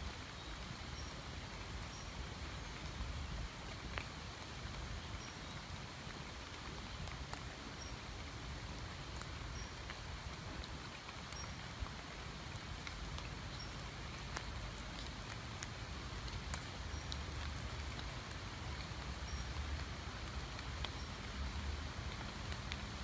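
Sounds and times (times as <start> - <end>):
steady rain falling: 0.0 - 23.0
sharp water drips: 0.1 - 23.0.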